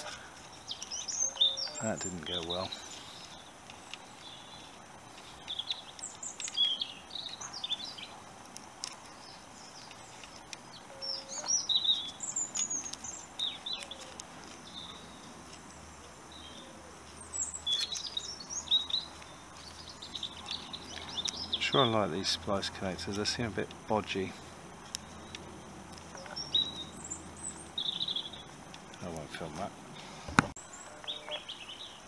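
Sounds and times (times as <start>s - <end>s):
background hiss: 0.0s - 32.0s
birds chirping: 0.0s - 32.0s.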